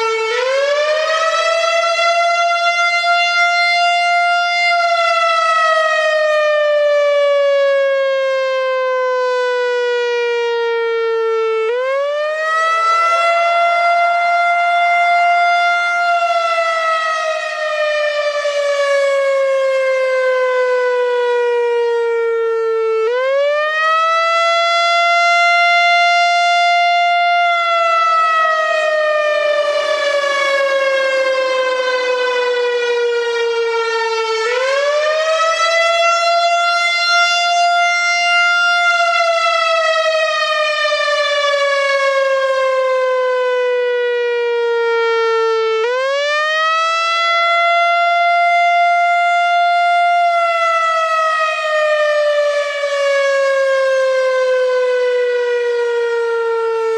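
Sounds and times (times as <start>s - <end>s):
electronic warning siren wailing: 0.0s - 56.9s.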